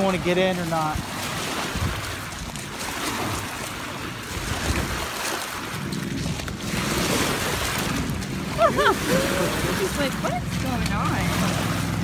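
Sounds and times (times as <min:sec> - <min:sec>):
small waves washing onto gravel: 0:00.0 - 0:12.0
wind buffeting microphone: 0:00.0 - 0:12.0.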